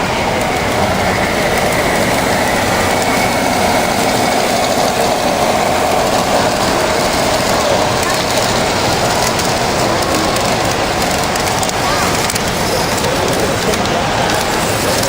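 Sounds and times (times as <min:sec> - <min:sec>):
constant hum: 0:00.0 - 0:15.0
model train running: 0:00.0 - 0:15.0.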